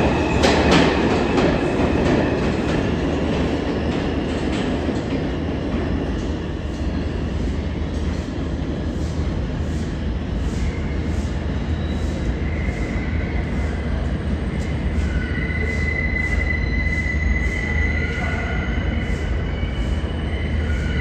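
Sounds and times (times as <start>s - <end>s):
subway train rumbling on rails: 0.0s - 21.0s.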